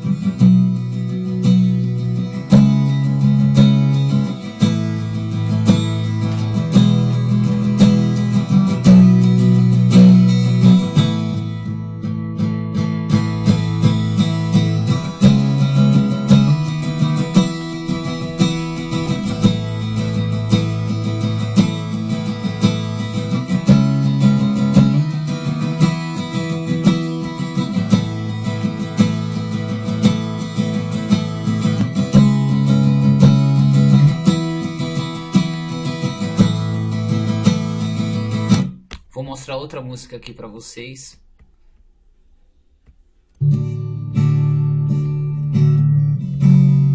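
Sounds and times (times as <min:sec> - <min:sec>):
acoustic guitar chords strummed: 0:00.0 - 0:40.5, 0:42.8 - 0:46.9.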